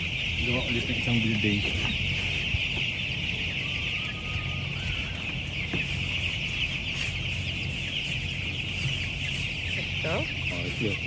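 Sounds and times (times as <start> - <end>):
chicks peeping: 0.0 - 11.0
ventilation fans humming: 0.0 - 11.0.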